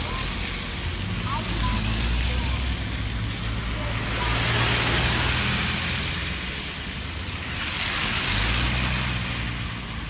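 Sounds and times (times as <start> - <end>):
rushing tyre noise: 0.0 - 10.0.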